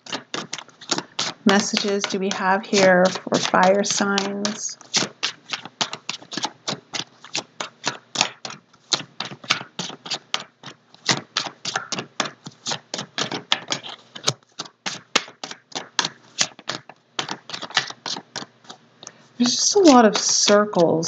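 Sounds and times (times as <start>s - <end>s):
cards being shuffled: 0.0s - 19.2s.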